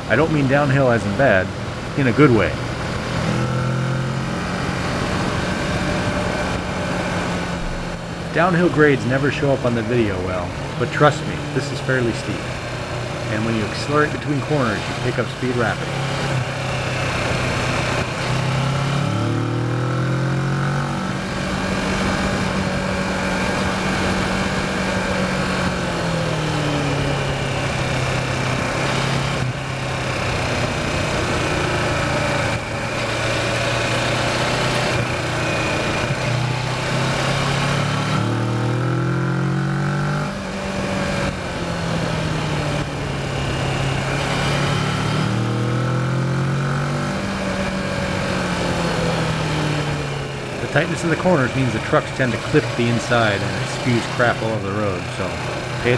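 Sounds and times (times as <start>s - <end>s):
motorcycle engine revving: 0.0s - 55.9s
wind and road noise: 0.0s - 55.9s.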